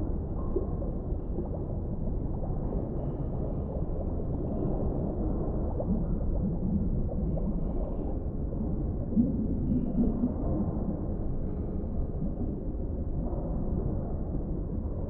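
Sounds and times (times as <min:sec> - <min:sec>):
faint water gurgling: 0:00.0 - 0:15.0
muffled underwater rumble: 0:00.0 - 0:15.0.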